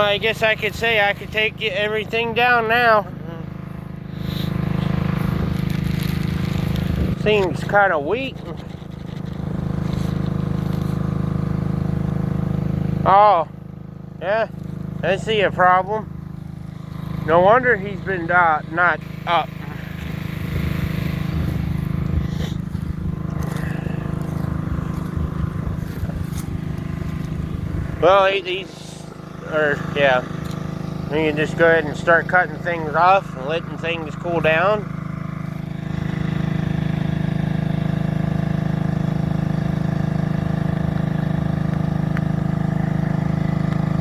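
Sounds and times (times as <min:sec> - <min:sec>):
portable generator engine running: 0:00.0 - 0:44.0.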